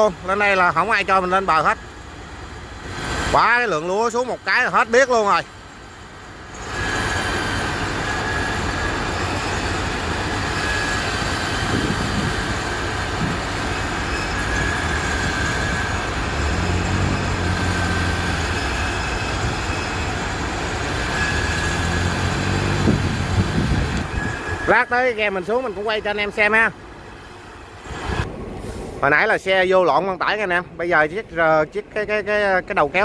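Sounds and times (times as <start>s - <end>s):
low diesel engine hum: 0.0s - 29.1s
high machinery whine: 0.0s - 29.3s.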